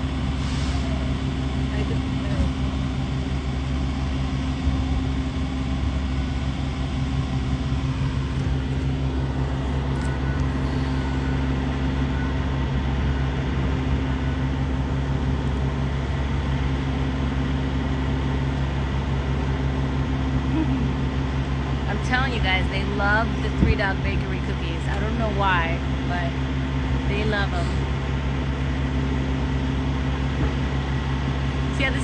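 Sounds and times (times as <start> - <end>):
car engine and road hum: 0.0 - 32.0.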